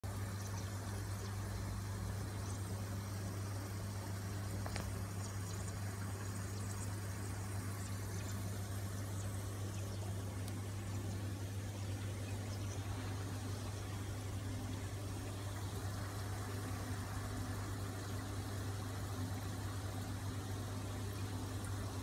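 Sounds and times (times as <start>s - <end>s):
aquarium air pump hum: 0.0s - 22.0s
water hissing and bubbling: 0.1s - 22.0s.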